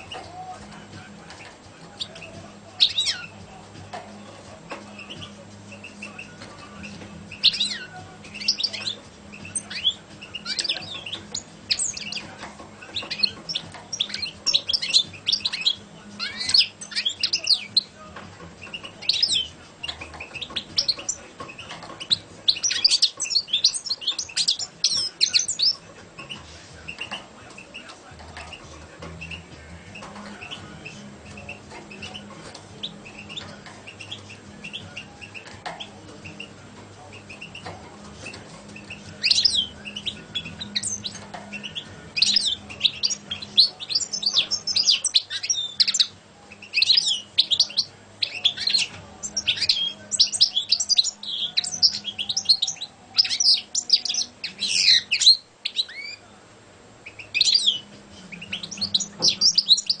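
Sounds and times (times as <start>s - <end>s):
goldfinch singing: 0.0s - 56.3s, 57.0s - 60.0s.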